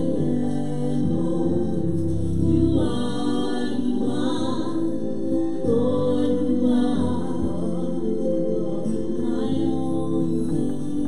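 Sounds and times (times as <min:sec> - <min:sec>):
gospel voices singing: 0:00.0 - 0:11.0.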